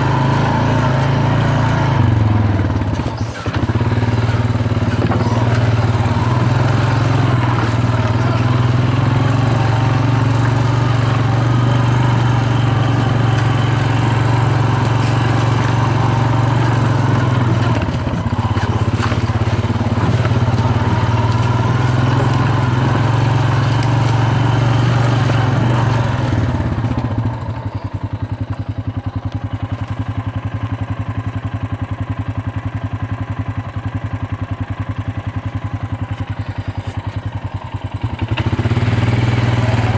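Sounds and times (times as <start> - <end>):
atv engine running: 0.0 - 39.9
rattle and tyre noise: 0.0 - 39.9.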